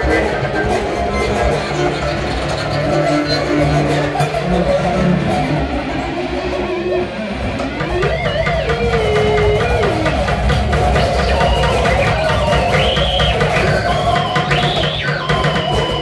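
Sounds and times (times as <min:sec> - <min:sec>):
plucked electric string instruments: 0:00.0 - 0:16.0.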